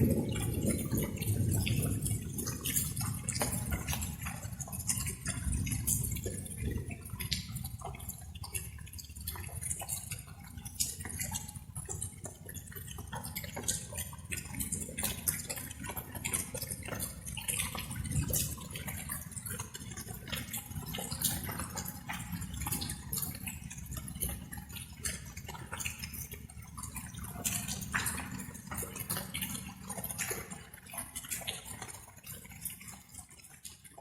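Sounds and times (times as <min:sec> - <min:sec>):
rain drops tapping and dripping: 0:00.0 - 0:34.0.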